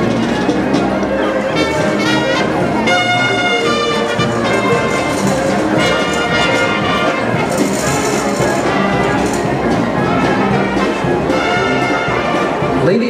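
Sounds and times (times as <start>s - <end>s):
brass and orchestral music: 0.0s - 13.0s.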